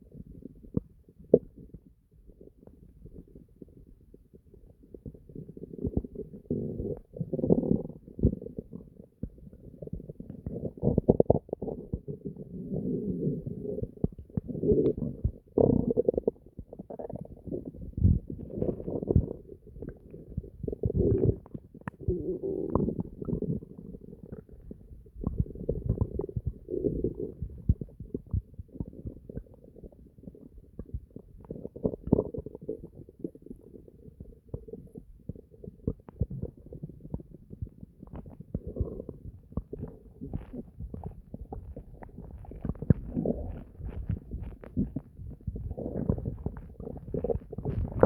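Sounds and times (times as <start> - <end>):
stomach gurgling and growling: 0.0 - 48.0.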